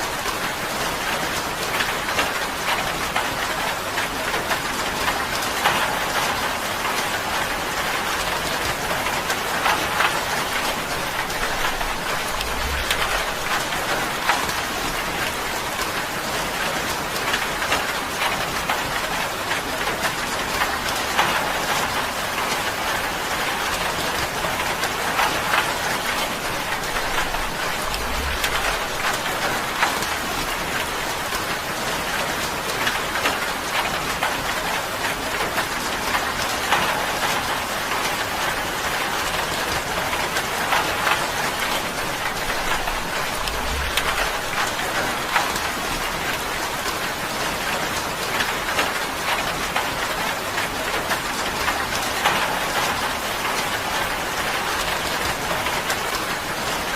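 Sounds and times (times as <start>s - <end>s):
rain on a tin roof: 0.0s - 56.9s.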